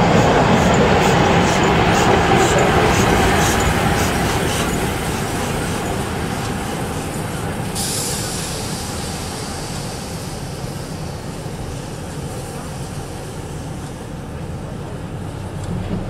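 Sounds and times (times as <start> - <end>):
steam locomotive running past: 0.0 - 16.0.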